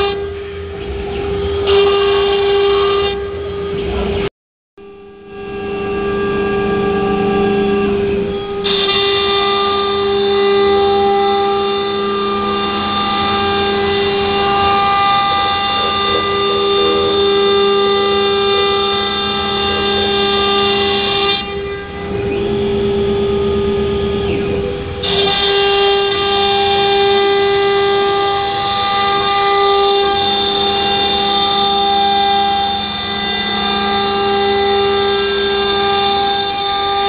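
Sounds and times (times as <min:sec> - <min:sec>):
cnc spindle whine: 0:00.0 - 0:37.0.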